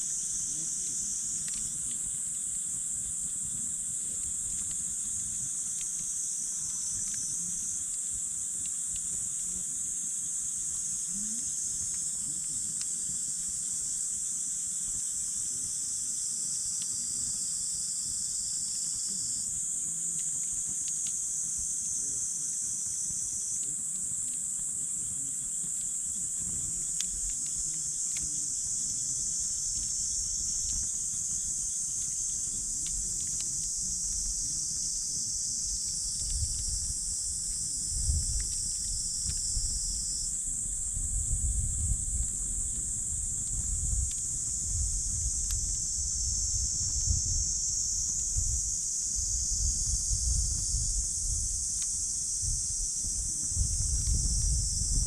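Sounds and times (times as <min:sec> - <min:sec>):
campfire crackling and popping: 0:00.0 - 0:09.7, 0:18.4 - 0:49.2, 0:50.8 - 0:55.0
high-pitched insect chorus: 0:00.0 - 0:55.0.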